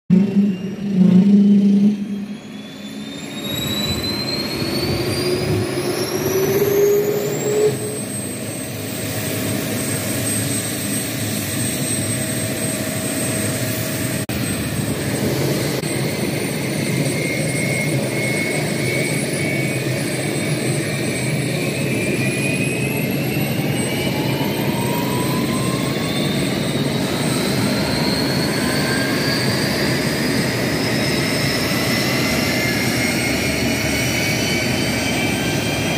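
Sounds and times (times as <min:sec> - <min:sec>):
jet engine turbine whine: 0:00.1 - 0:35.9
steady rushing roar: 0:00.1 - 0:35.9.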